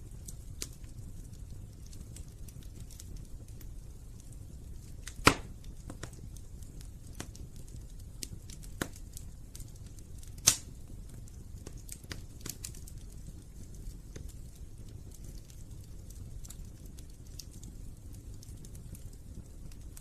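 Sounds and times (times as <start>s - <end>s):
sharp loud snaps of fire: 0.0s - 20.0s
wood fire crackling: 0.0s - 20.0s.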